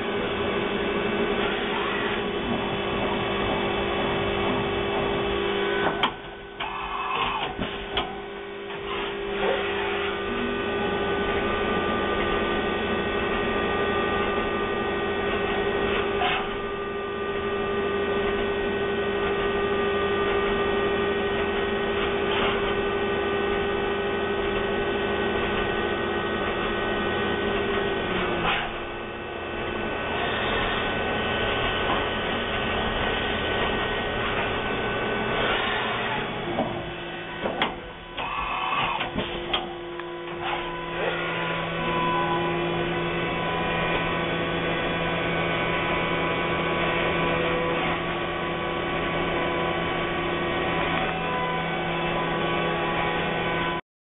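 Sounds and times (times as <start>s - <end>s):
milling machine electric whine: 0.0s - 53.8s.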